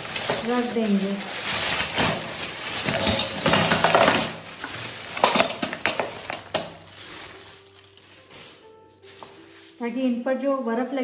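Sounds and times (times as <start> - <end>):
frozen fruit clattering on metal: 0.0 - 11.0
plastic bag crinkling: 0.0 - 11.0.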